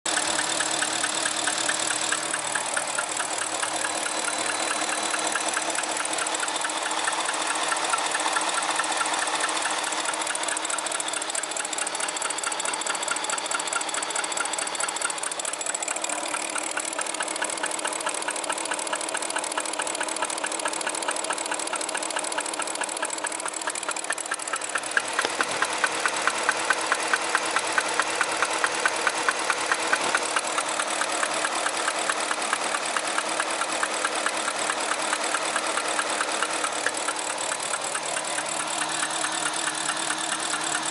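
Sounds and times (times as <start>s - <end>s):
car engine ticking knock: 0.1s - 40.9s.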